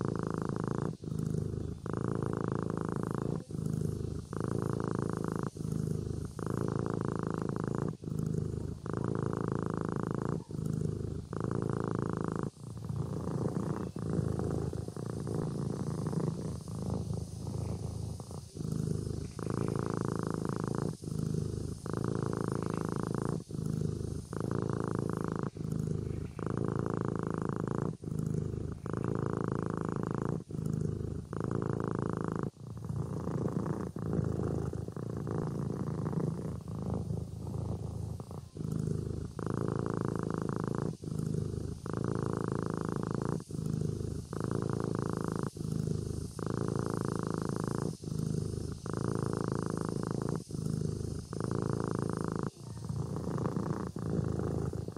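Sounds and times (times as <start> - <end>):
kitten purring: 0.0 - 54.9.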